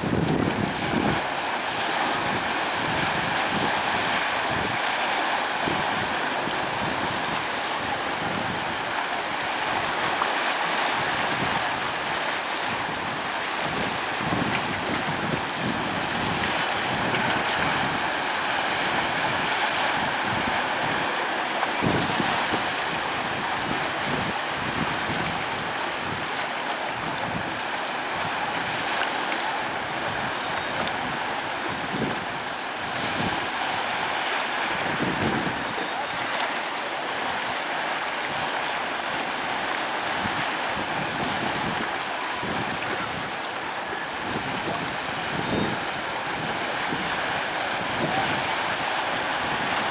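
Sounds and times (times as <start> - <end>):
wind buffeting microphone: 0.0 - 29.0, 29.6 - 36.3, 37.2 - 49.9
surf washing on a beach: 0.0 - 49.9.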